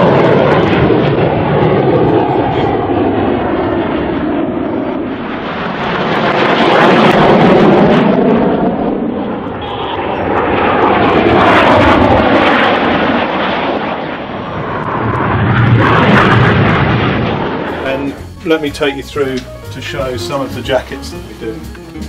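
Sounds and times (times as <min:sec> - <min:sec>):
jets flying past: 0:00.0 - 0:21.9.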